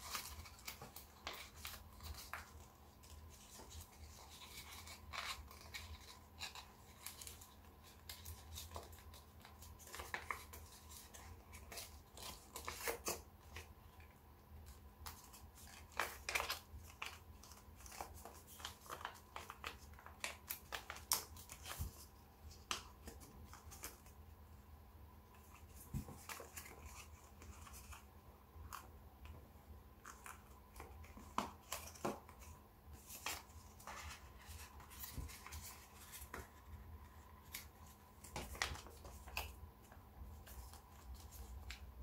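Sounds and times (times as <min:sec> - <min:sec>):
paper crackling: 0:00.0 - 0:13.7, 0:14.6 - 0:24.2, 0:30.0 - 0:42.0
paper crinkling and rustling: 0:00.0 - 0:24.3, 0:25.3 - 0:29.4, 0:30.0 - 0:42.0.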